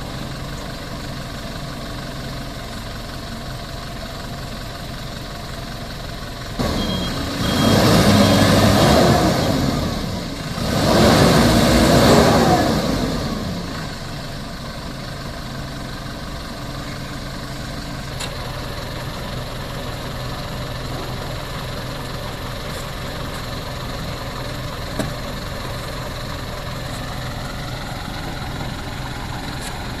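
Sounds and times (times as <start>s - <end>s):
truck engine revving and idling: 0.0s - 30.0s.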